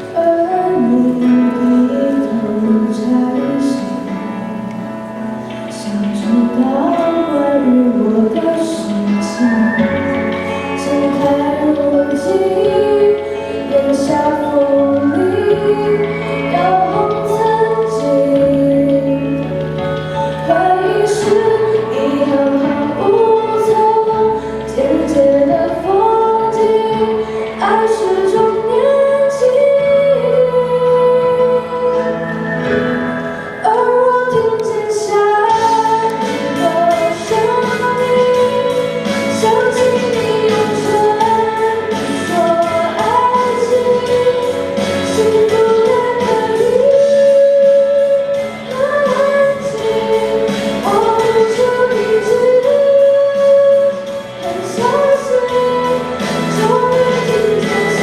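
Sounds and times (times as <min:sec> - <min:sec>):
instrumental accompaniment: 0:00.0 - 0:58.0
person singing pop ballad: 0:00.0 - 0:58.0.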